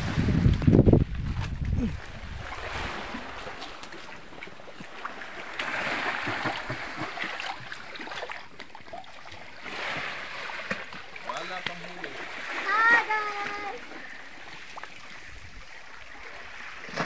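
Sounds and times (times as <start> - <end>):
sea water lapping against rocks: 0.0 - 17.0
small splashes: 1.4 - 17.0.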